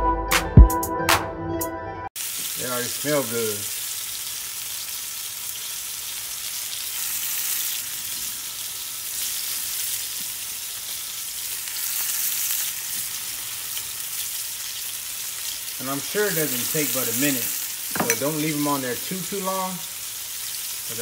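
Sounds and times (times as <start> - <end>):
fish frying in hot oil: 2.2 - 21.0.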